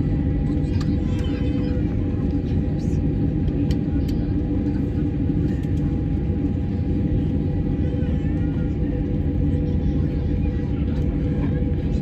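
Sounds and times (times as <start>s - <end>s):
de-icing equipment machine hum: 0.0s - 12.0s.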